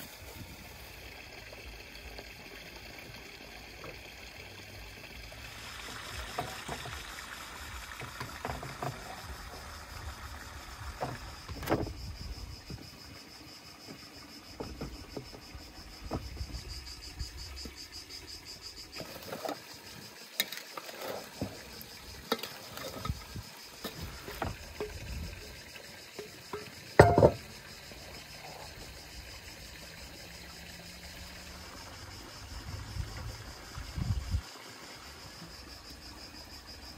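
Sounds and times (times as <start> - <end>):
insect trilling: 0.0 - 36.9.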